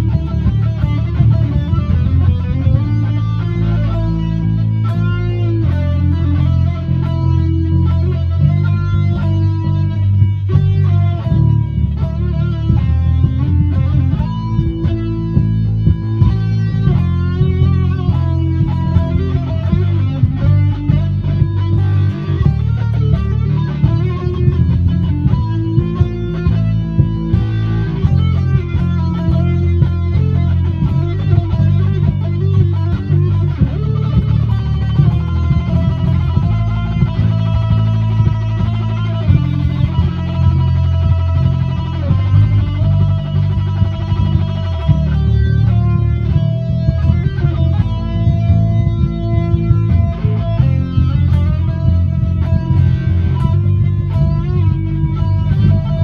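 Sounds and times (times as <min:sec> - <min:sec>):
electric guitar playing: 0:00.0 - 0:56.0.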